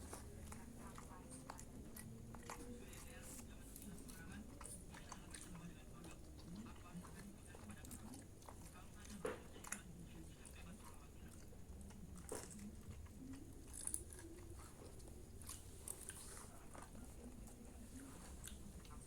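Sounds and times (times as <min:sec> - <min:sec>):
people chewing food: 0:00.0 - 0:19.0.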